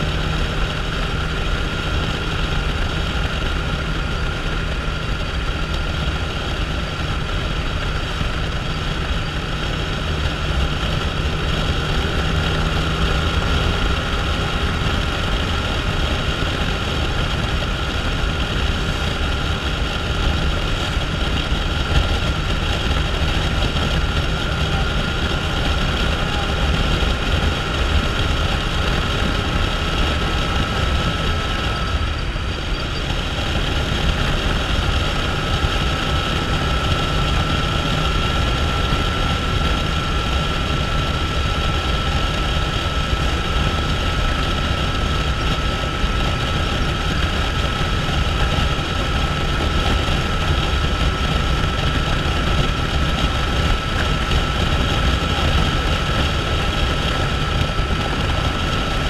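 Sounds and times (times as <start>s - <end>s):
motorcycle engine drone: 0.0s - 59.0s
steady high whine: 0.0s - 59.0s
wind noise: 0.0s - 59.0s.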